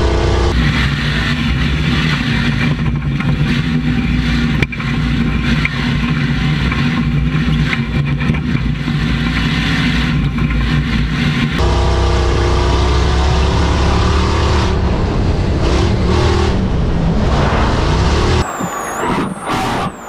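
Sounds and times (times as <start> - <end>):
truck engine running: 0.0 - 19.4
road and chassis noise: 0.0 - 20.0.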